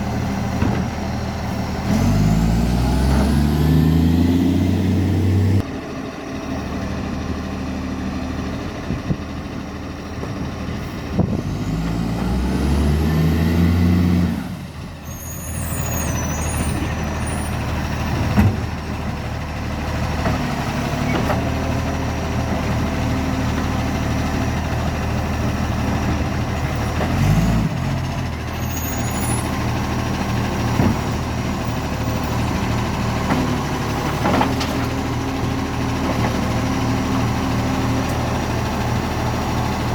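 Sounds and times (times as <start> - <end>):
diesel engine with exhaust leak: 0.0 - 39.9.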